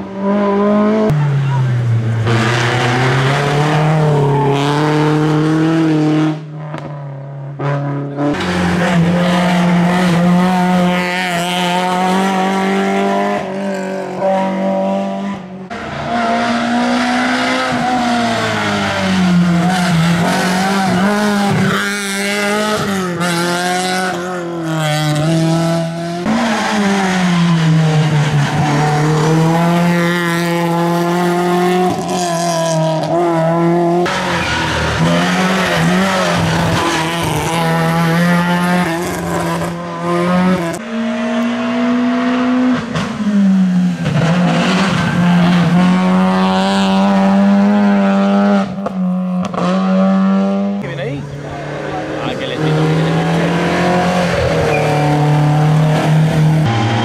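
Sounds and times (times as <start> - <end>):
rally car engines revving hard: 0.0 - 57.0.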